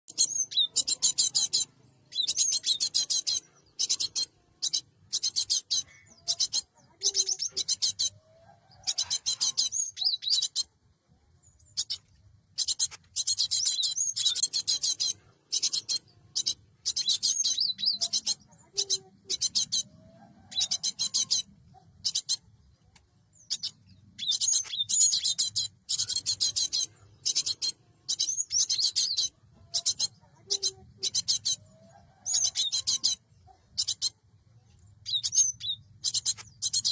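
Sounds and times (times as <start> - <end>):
bird chattering calls: 0.1 - 10.8, 11.6 - 22.6, 23.3 - 36.9.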